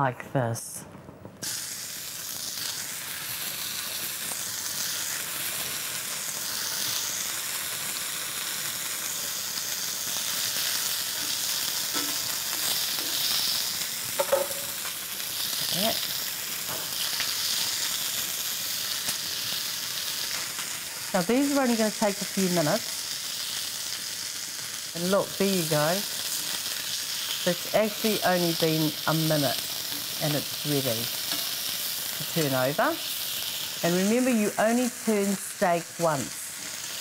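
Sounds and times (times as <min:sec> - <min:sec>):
meat sizzling in a pan: 0:01.4 - 0:37.0.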